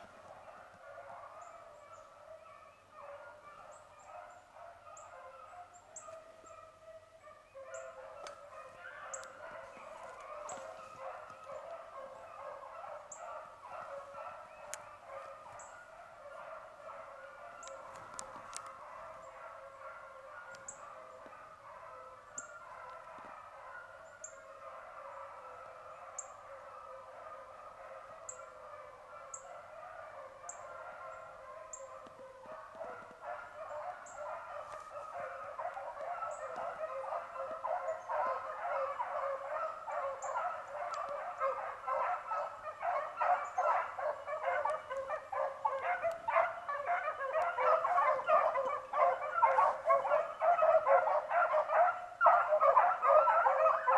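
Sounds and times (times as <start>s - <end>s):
beagles baying: 0.0s - 53.9s.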